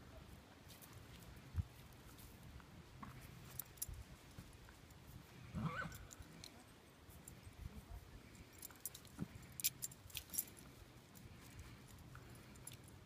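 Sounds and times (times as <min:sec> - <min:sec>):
faint scattered ticks: 0:00.7 - 0:13.0.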